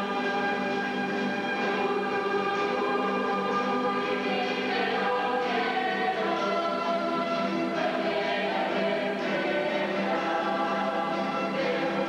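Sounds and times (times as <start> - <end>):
choir singing a hymn: 0.0 - 12.0.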